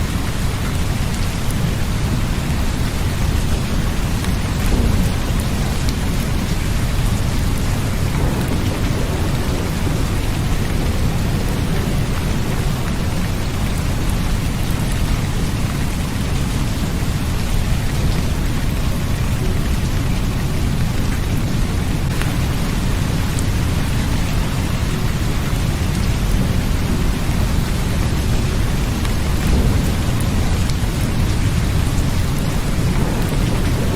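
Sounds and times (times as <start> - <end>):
steady rain falling: 0.0 - 33.9
deep rumble: 0.2 - 33.9
raindrop ticks: 2.6 - 33.9.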